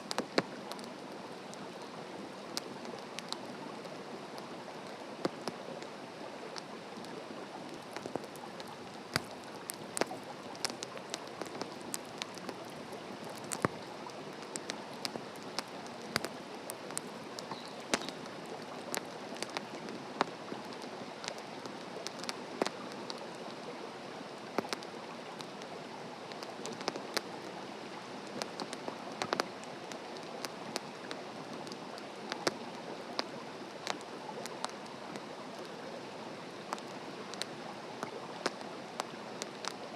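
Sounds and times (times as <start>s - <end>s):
campfire crackling and popping: 0.0s - 23.7s, 24.4s - 35.9s, 36.5s - 39.9s.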